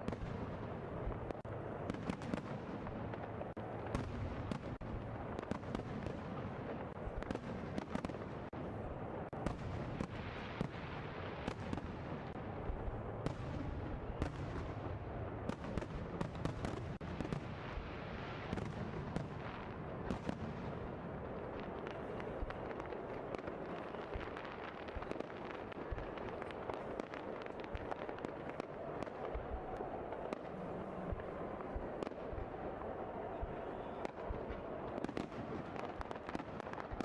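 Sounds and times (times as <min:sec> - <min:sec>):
fireworks bangs and crackles: 0:00.0 - 0:37.0
fireworks rumble: 0:00.0 - 0:37.0.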